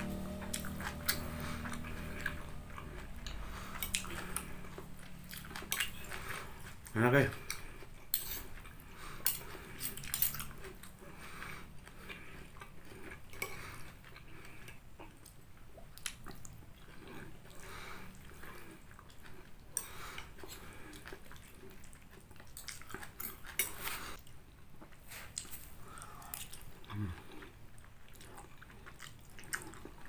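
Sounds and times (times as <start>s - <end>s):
person chewing noodles: 0.0s - 30.0s.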